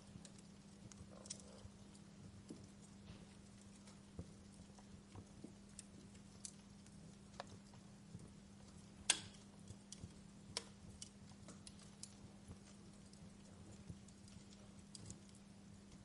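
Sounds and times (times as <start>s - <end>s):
faint steady low hum: 0.0s - 16.0s
wood fire crackling: 0.0s - 16.0s.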